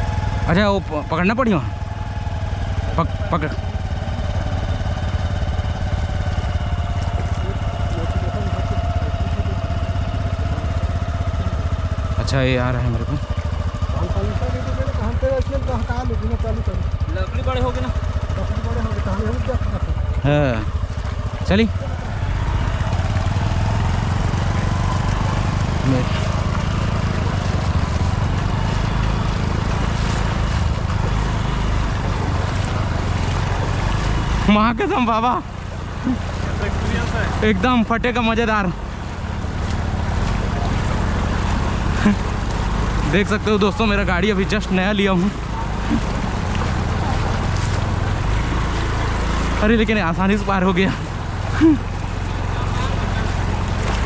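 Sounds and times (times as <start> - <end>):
motorcycle engine idling: 0.0 - 54.0
water splashing: 0.0 - 54.0.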